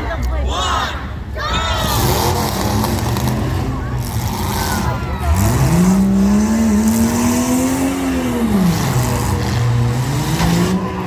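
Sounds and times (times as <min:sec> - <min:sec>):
car engine revving hard: 0:01.9 - 0:11.0.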